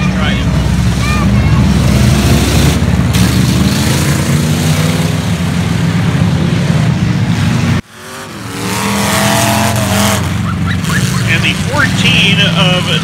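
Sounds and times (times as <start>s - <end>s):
engines revving: 0.0s - 13.0s
race car engines droning: 0.0s - 13.0s.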